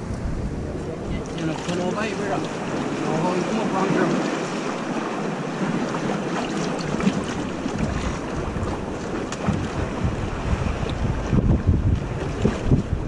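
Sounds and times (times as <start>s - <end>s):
wind buffeting microphone: 0.0s - 13.0s
water washing around rocks: 1.2s - 13.0s.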